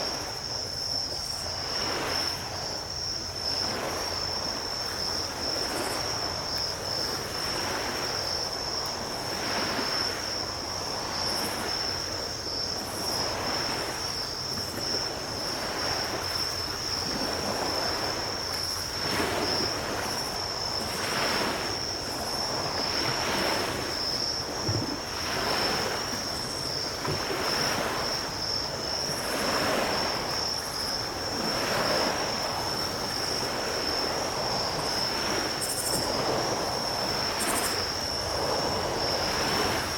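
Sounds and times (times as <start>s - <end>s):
high-pitched insect trill: 0.0s - 39.9s
small waves breaking on beach: 0.0s - 39.9s.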